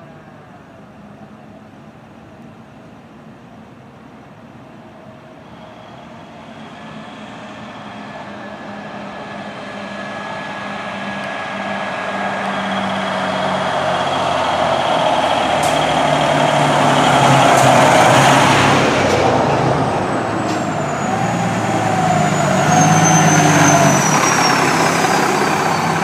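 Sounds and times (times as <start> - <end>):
fire truck engine: 4.5 - 26.0.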